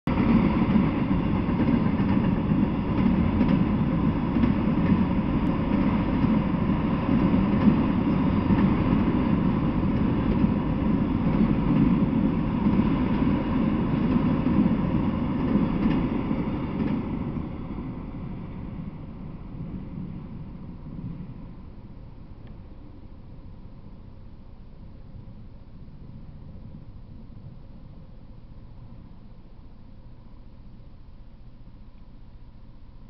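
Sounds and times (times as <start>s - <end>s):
train wheels rumbling on track: 0.1s - 30.9s.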